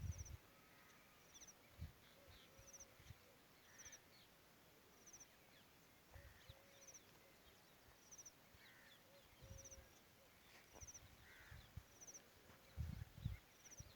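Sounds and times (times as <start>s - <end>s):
birds chirping: 0.0s - 4.4s, 5.0s - 13.9s.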